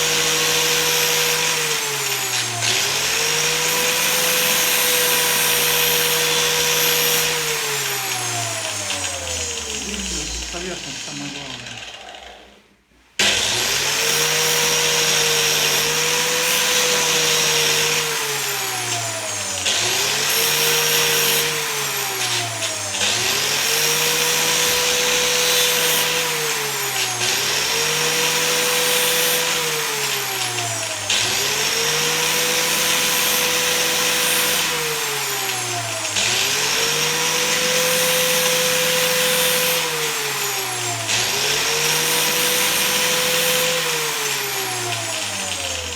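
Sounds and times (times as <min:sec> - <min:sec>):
angle grinder grinding metal blade: 0:00.0 - 0:12.6, 0:13.2 - 0:45.9.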